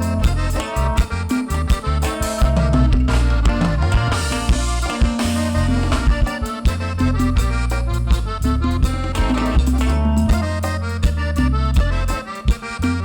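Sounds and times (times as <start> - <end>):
cumbia band playing: 0.0 - 13.0.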